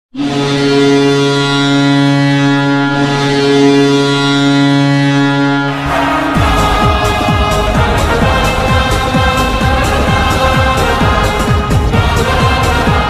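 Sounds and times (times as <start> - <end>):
goal horn low blast: 0.2 - 13.0.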